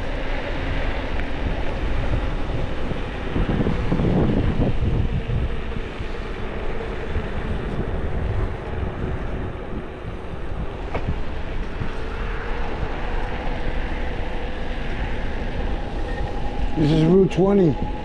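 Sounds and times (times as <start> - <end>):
faint steady whine: 0.0 - 18.0
road rumble: 0.0 - 18.0
wind rushing over microphone: 0.0 - 18.0.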